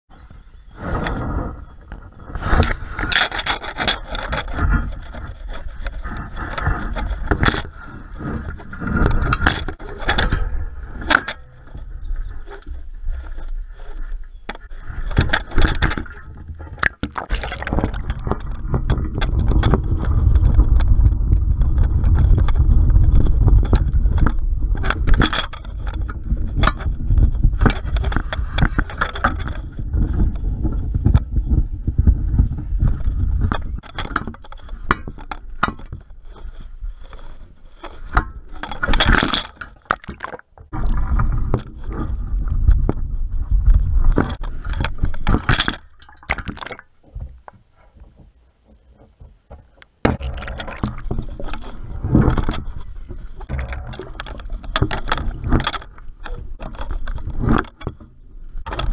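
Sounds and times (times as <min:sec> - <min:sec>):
low underwater rumble: 0:00.1 - 0:39.0, 0:39.6 - 0:58.9.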